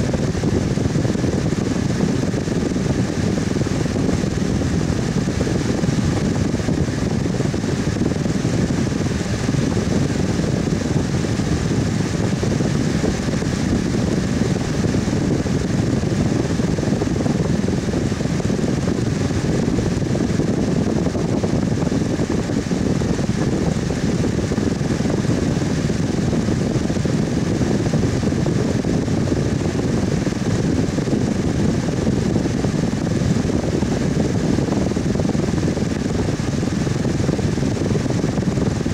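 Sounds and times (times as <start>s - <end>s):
electric fan whooshing: 0.0s - 38.9s.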